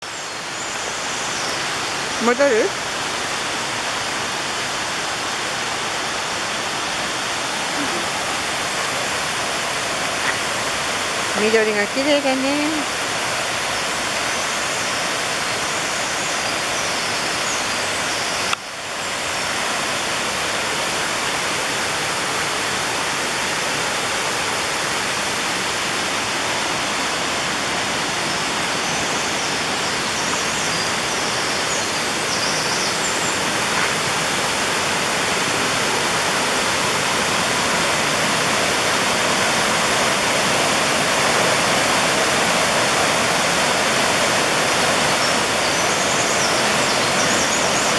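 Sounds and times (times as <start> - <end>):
mountain stream rushing: 0.0 - 47.9.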